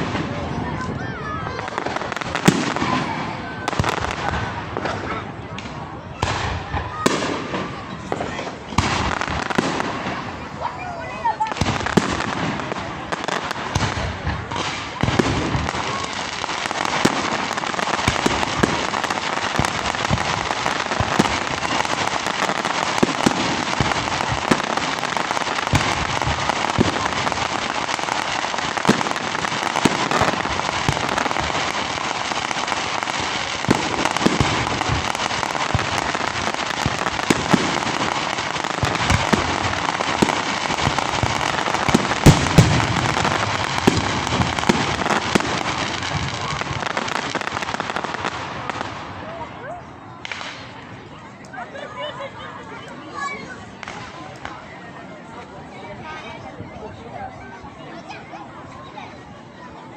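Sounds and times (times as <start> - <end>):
fireworks bangs: 0.0 - 51.4, 53.2 - 54.8
fireworks crackling: 0.0 - 59.9.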